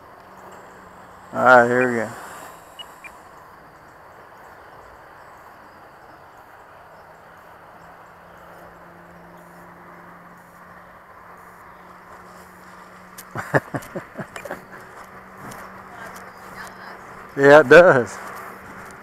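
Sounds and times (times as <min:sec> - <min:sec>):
soft outdoor hiss: 0:00.0 - 0:19.0.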